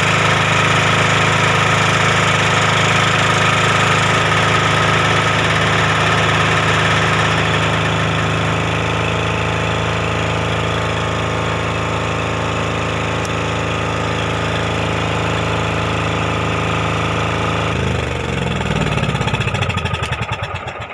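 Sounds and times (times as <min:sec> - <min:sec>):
diesel generator running: 0:00.0 - 0:20.9
engine running down: 0:00.0 - 0:20.9.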